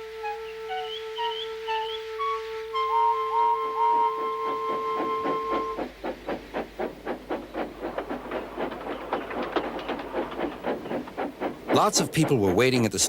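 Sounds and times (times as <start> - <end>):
steam locomotive chuffing: 0.1 - 13.0.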